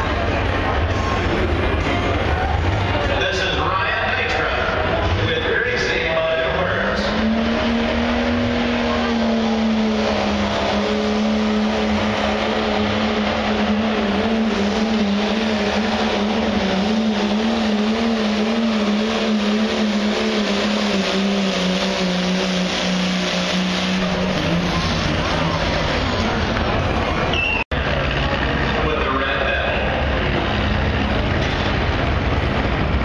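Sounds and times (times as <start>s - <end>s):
diesel engine at full throttle: 0.0s - 33.0s.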